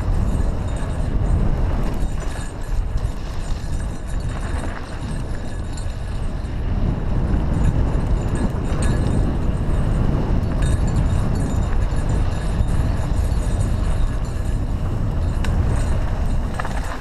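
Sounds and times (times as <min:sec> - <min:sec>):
bike rattling: 0:00.0 - 0:17.0
tyre noise on dirt: 0:00.0 - 0:17.0
wind on microphone: 0:00.0 - 0:17.0.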